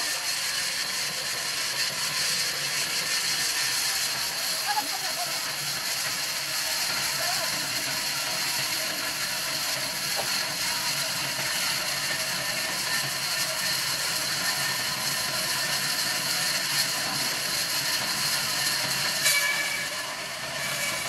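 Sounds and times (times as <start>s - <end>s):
band saw cutting logs: 0.0s - 21.0s.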